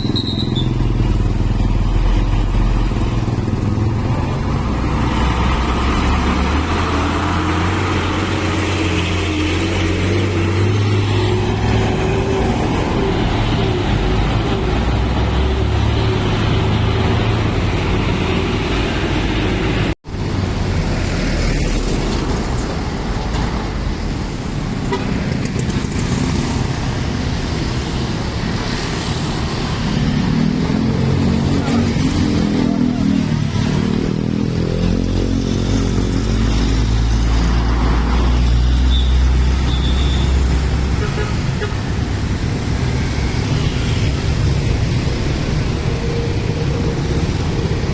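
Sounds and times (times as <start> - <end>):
heavy truck engines droning: 0.0 - 47.9.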